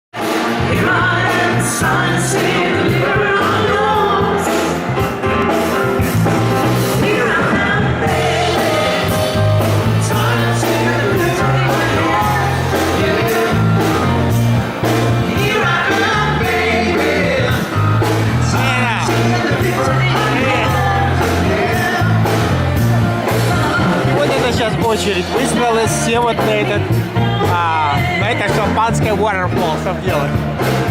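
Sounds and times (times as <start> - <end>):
pop-rock song with singing: 0.2 - 30.9.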